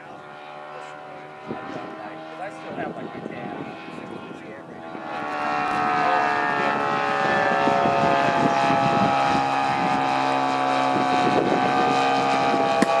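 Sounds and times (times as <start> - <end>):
model airplane engine and propeller: 0.0 - 13.0.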